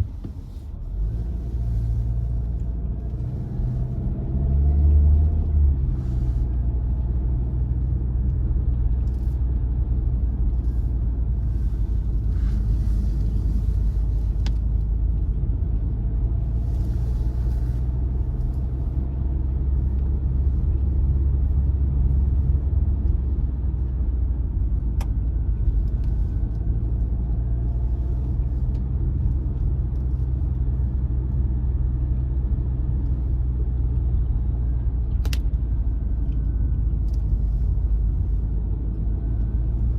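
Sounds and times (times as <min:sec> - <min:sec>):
car engine and tyre rumble: 0:00.0 - 0:39.9
faint engine hum: 0:00.0 - 0:39.9.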